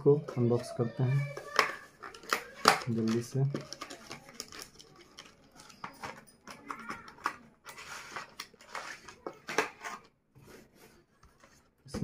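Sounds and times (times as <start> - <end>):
cardboard and plastic rustling: 0.2 - 12.0.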